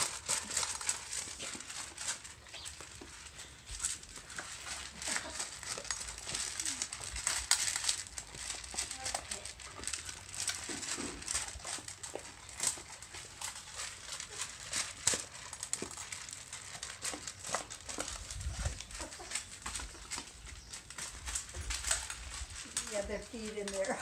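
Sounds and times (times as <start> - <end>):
kibble clicking against pan: 0.0 - 24.0
puppies crunching dry kibble: 0.0 - 24.0.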